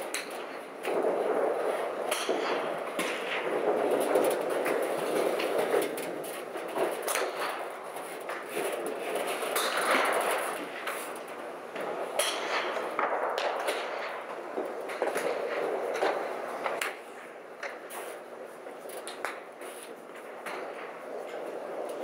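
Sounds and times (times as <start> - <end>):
golf clubs striking balls: 0.0 - 22.0
rushing hall background noise: 0.0 - 22.0.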